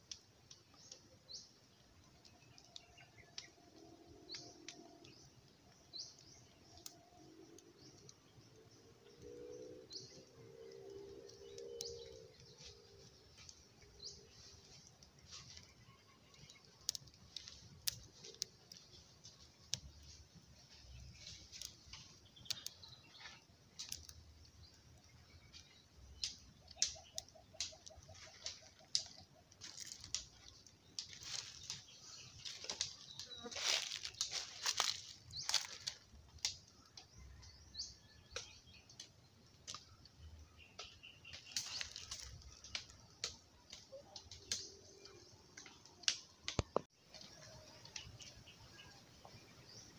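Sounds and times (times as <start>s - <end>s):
sharp clicks and crackles: 0.0s - 48.4s
birds chirping: 0.0s - 49.9s.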